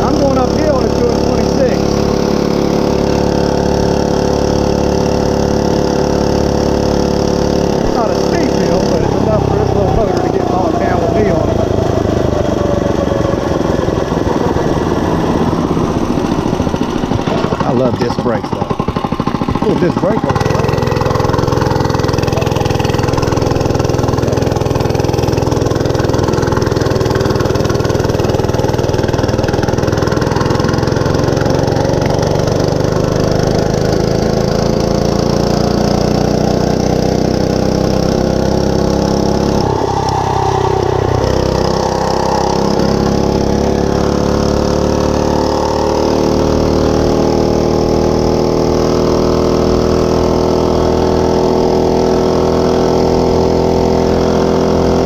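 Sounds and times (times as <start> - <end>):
mini bike engine running: 0.0 - 55.0.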